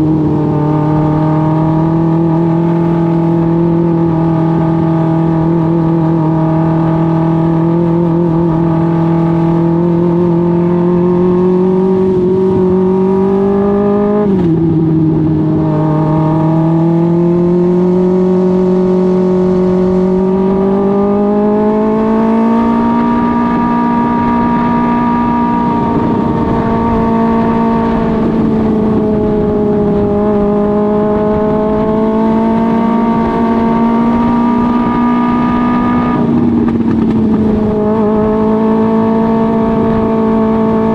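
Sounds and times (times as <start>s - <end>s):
racing engine at high revs: 0.0s - 40.9s.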